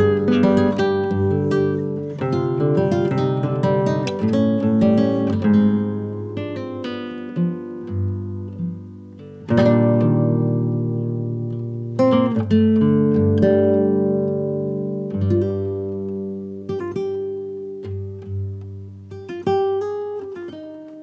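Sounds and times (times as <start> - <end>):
plucked guitar: 0.0 - 21.0.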